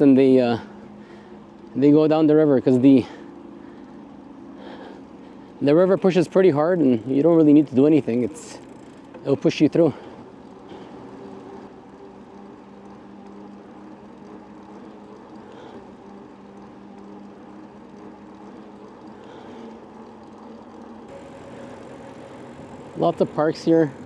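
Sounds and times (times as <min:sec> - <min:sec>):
motor running steadily: 0:00.0 - 0:24.0.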